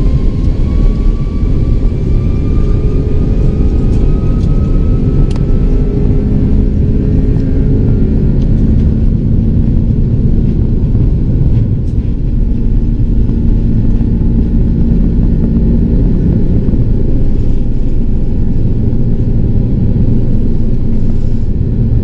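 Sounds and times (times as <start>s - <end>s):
jet engines deep rumble: 0.0s - 22.0s.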